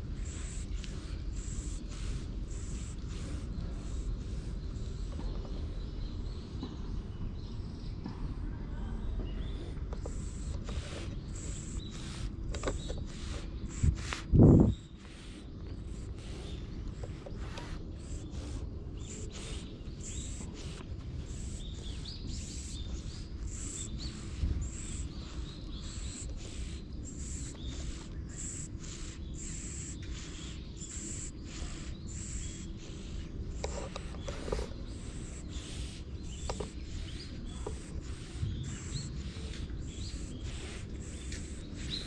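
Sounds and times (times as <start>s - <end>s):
cat purring: 0.0s - 5.5s, 9.3s - 42.0s
faint birds chirping: 0.0s - 42.0s.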